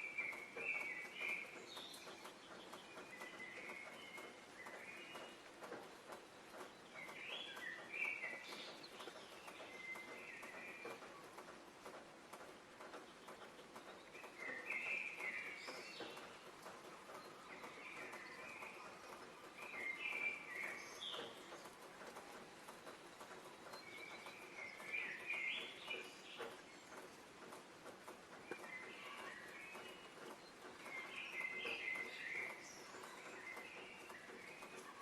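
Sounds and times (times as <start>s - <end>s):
songbirds warbling: 0.0s - 35.0s.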